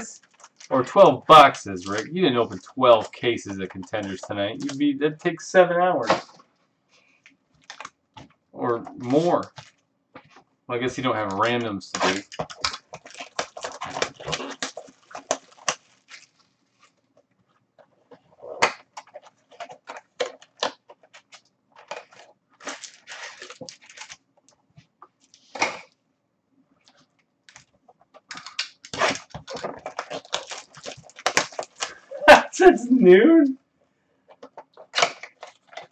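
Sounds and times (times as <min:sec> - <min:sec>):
card pack wrappers crinkling: 0:00.0 - 0:06.4, 0:07.1 - 0:24.6, 0:26.8 - 0:32.8, 0:34.3 - 0:35.9.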